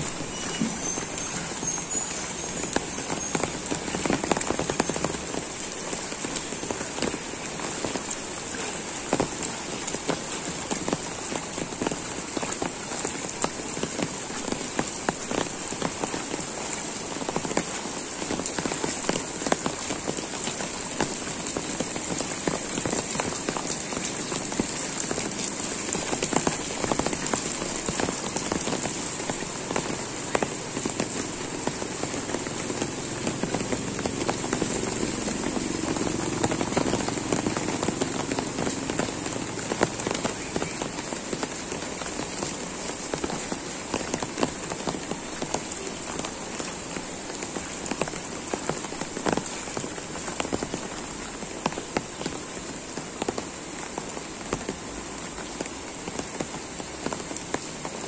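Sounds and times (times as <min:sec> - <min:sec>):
heavy rain on flooded street: 0:00.0 - 0:58.0.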